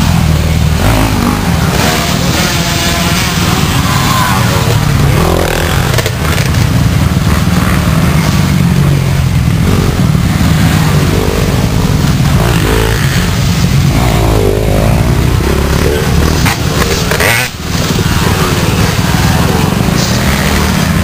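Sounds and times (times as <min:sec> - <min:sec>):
dirt bikes revving past: 0:00.0 - 0:21.0
drone of bikes: 0:00.0 - 0:21.0.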